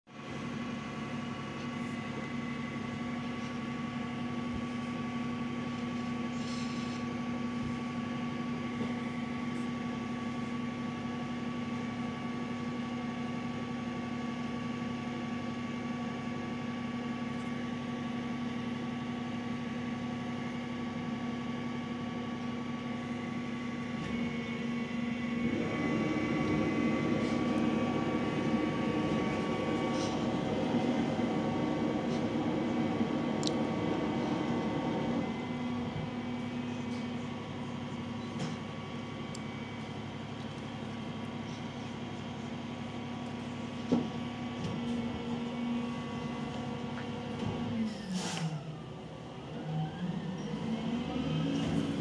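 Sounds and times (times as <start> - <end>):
diesel engine idling: 0.1 - 47.9, 48.5 - 52.0.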